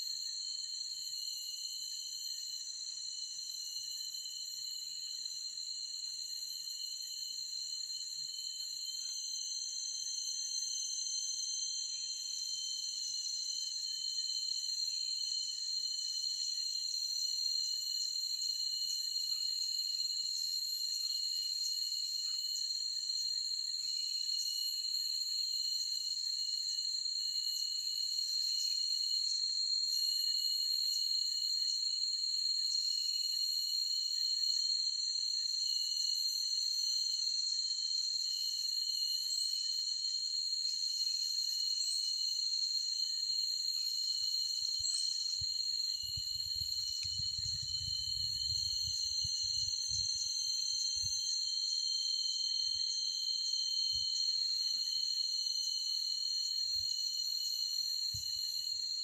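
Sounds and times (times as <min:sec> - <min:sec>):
insect chorus trilling: 0:00.0 - 0:59.0.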